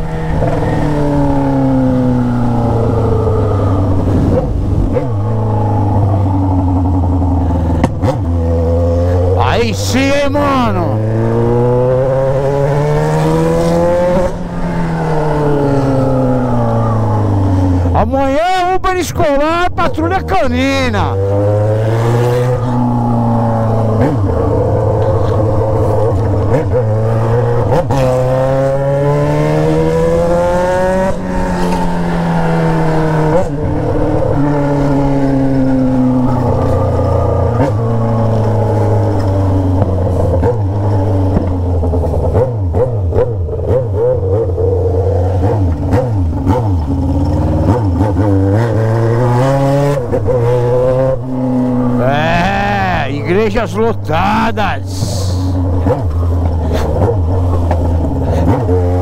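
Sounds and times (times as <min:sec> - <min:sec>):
motorcycle engine revving: 0:00.0 - 0:18.0, 0:21.1 - 0:52.5, 0:55.1 - 0:59.0.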